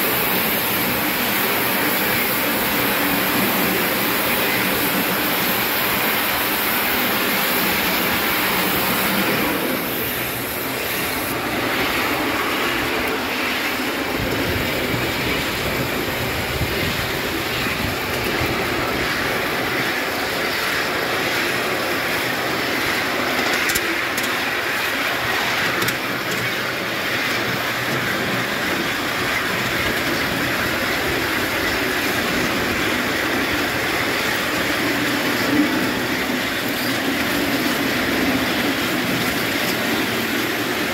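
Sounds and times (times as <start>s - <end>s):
model steam locomotive running: 0.0s - 40.9s.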